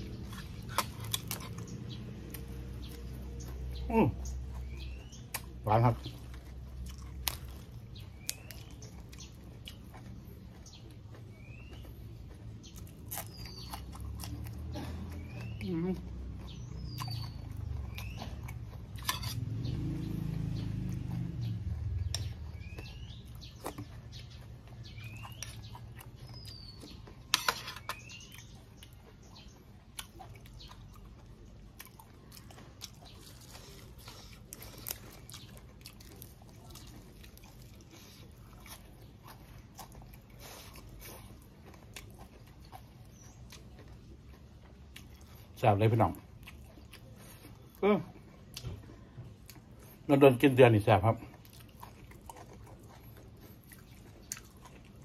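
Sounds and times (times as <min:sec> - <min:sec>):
bird chirping: 0:00.0 - 0:44.4
man chewing with wet mouth clicks: 0:00.0 - 0:50.1, 0:51.2 - 0:55.0.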